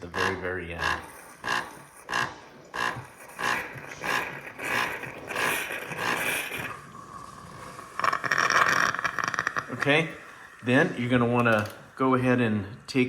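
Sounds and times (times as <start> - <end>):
hot water sputtering through nozzle: 0.0 - 13.0.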